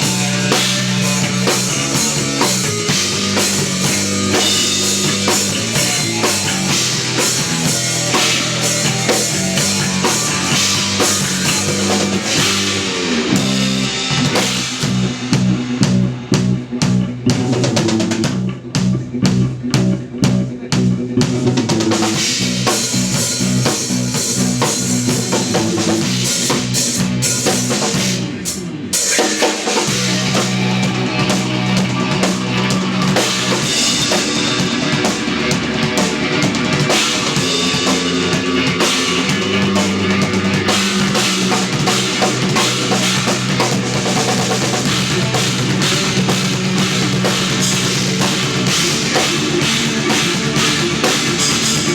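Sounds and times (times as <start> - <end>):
drum kit: 0.0 - 51.9
electric bass: 0.0 - 51.9
electric guitar: 0.0 - 51.9.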